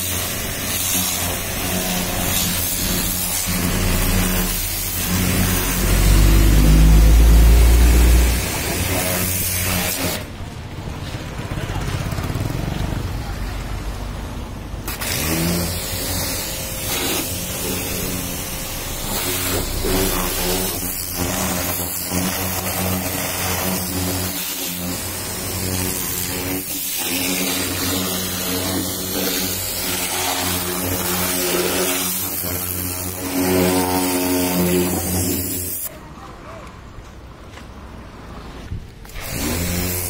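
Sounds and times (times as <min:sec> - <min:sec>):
pressure washer motor drone: 0:00.0 - 0:10.5, 0:13.5 - 0:35.8.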